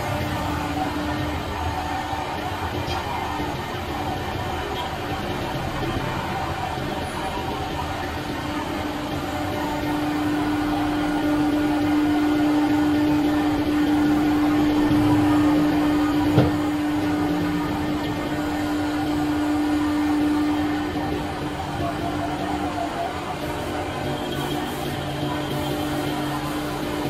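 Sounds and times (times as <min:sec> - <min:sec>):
cnc router spindle humming: 0:00.0 - 0:27.0.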